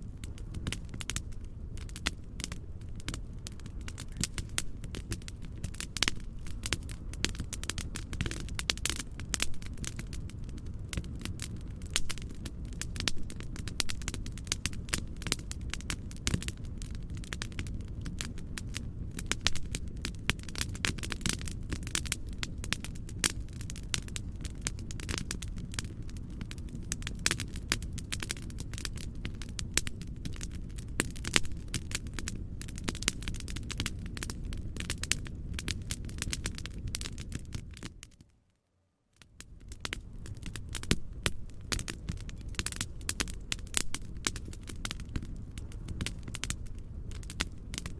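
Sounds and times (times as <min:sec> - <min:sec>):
wood fire crackling: 0:00.0 - 0:38.4, 0:39.1 - 0:47.9.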